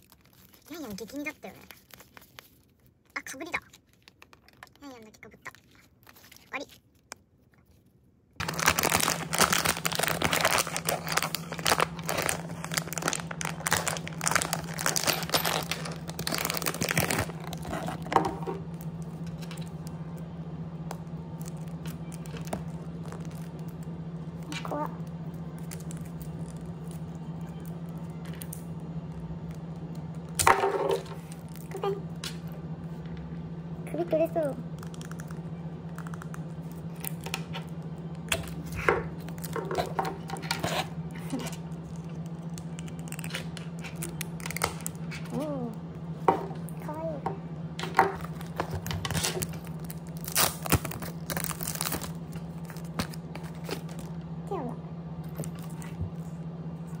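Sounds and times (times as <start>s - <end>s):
plastic packaging crinkling and tearing: 0.0s - 7.8s, 8.4s - 31.8s, 34.7s - 45.4s, 48.1s - 54.2s
steady low hum: 0.0s - 57.0s.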